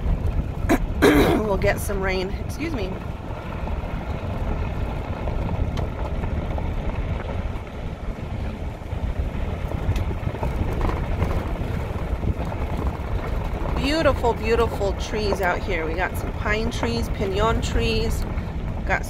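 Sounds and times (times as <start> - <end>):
engine and tyres rumbling: 0.0 - 19.0
wind buffeting microphone: 0.0 - 19.0.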